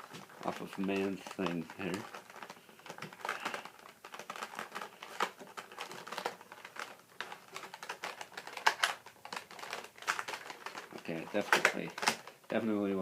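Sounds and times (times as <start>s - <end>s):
plastic packaging clicks and crinkles: 0.0s - 13.0s.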